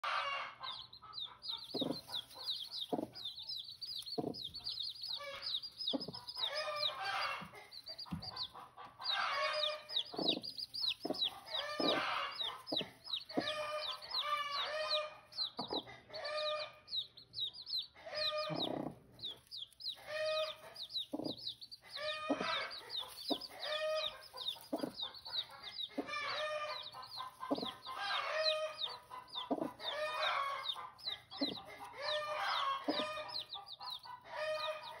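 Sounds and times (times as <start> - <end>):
adult chickens clucking: 0.0 - 35.0
chicks peeping: 0.0 - 35.0.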